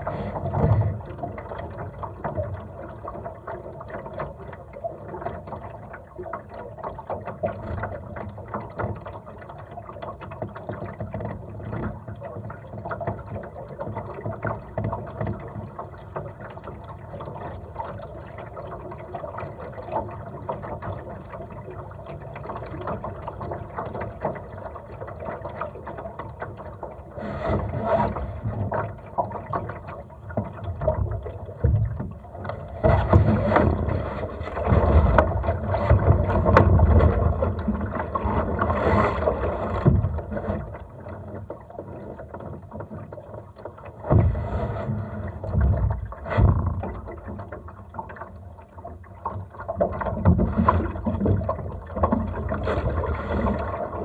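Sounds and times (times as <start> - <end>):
water splashing on hull: 0.0 - 54.0.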